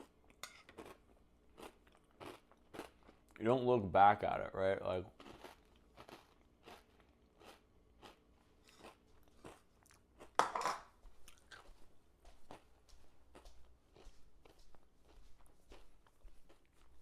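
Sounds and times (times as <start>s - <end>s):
person chewing and smacking: 0.0s - 3.4s, 5.1s - 17.0s.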